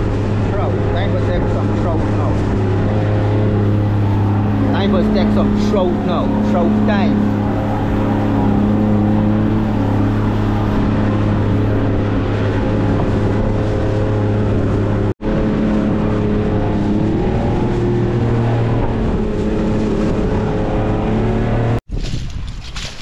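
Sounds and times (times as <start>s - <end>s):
boat engine humming: 0.0s - 21.8s.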